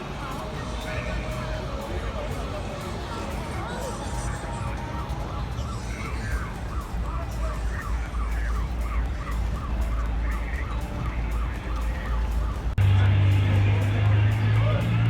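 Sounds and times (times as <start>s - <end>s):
siren yelping: 0.6s - 13.1s.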